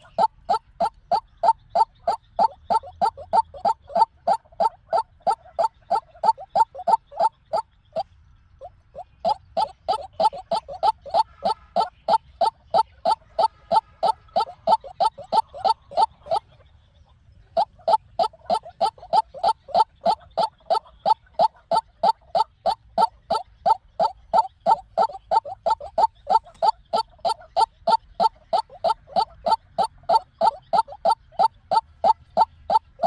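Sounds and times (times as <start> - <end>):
waterhen calling: 0.0 - 33.0.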